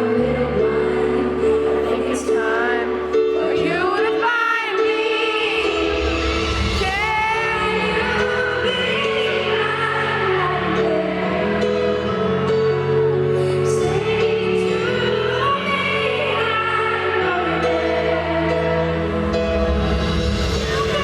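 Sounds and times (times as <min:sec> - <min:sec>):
woman singing pop ballad: 0:00.0 - 0:18.8, 0:20.5 - 0:21.0.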